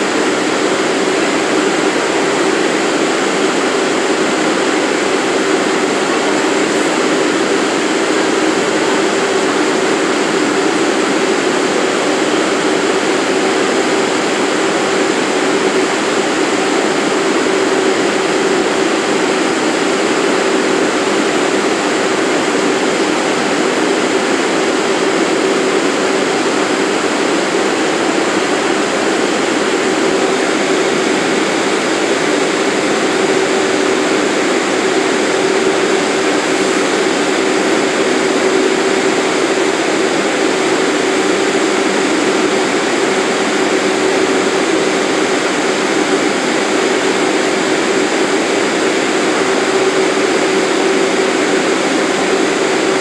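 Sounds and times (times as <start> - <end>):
subway train equipment humming: 0.0 - 53.0.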